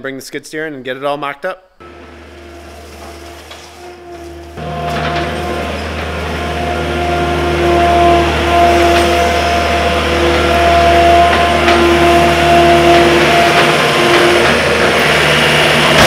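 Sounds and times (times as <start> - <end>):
diesel engine running: 1.8 - 16.0
high whine: 1.8 - 16.0.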